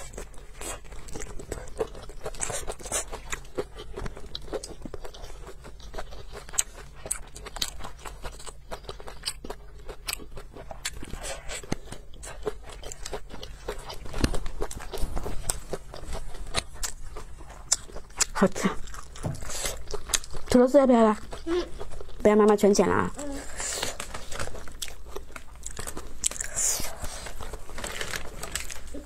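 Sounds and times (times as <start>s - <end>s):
biting and chewing food: 0.0s - 29.0s.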